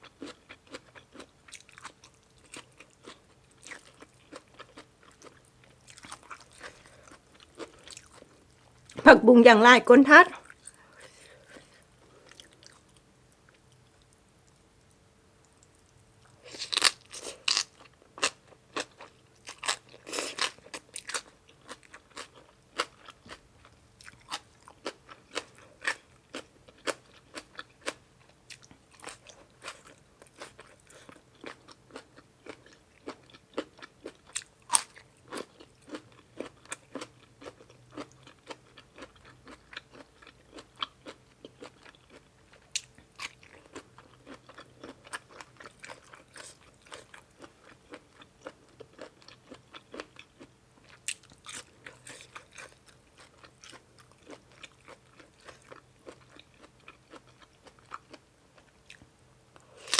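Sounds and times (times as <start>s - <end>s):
person chewing crunchy food: 0.0s - 9.0s, 10.4s - 14.6s, 15.5s - 59.9s.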